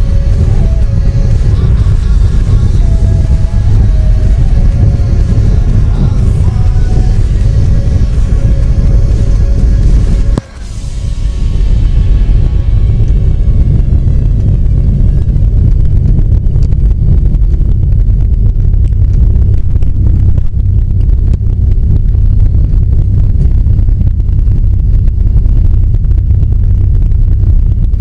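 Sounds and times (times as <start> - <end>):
aircraft engine rumbling: 0.0 - 28.0
wind buffeting microphone: 0.0 - 28.0.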